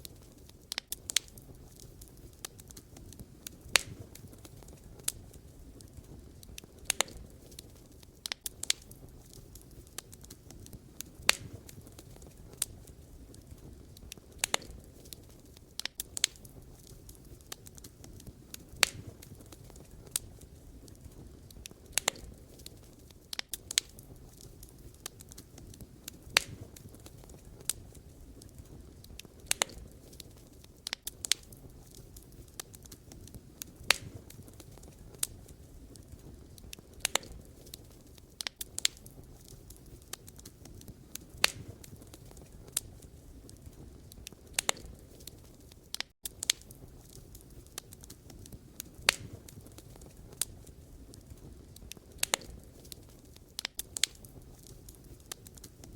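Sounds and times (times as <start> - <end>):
low rumble of flame: 0.0 - 55.9
wood fire crackling: 0.0 - 55.9.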